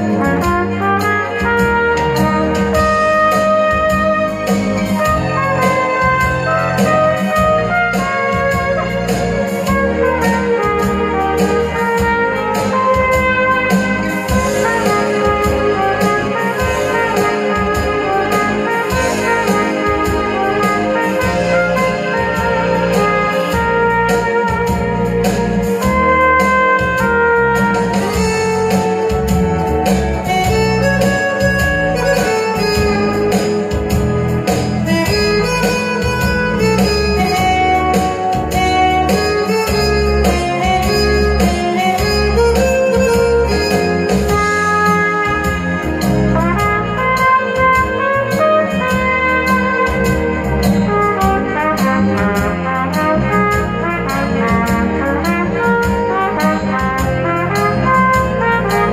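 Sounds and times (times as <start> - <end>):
backing track with guitar: 0.0 - 58.9
trumpet melody: 0.0 - 58.9.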